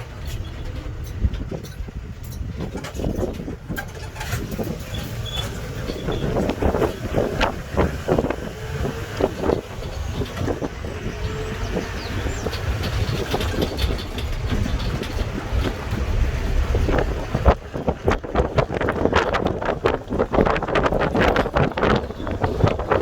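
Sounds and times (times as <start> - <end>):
knocks and rattles: 0.0 - 23.0
vehicle rumbling: 0.0 - 23.0.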